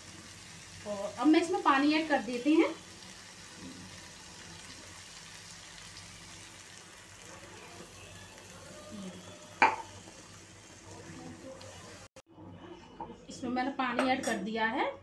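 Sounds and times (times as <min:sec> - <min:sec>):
gravy sizzling in a pan: 0:00.0 - 0:12.2.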